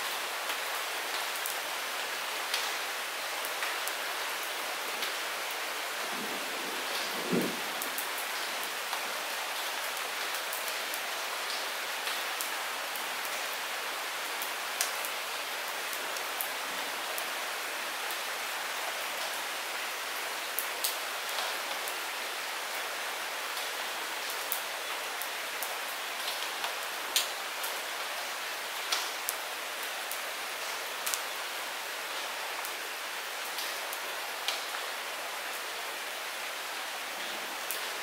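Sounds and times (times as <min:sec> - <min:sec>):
light rain: 0:00.0 - 0:38.0.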